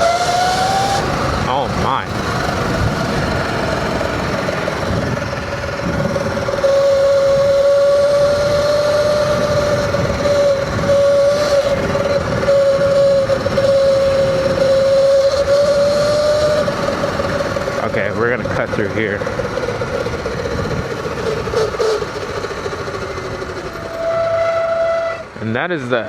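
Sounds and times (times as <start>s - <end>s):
wind noise on microphone: 0.0s - 22.2s
electric motor whine: 0.0s - 25.3s.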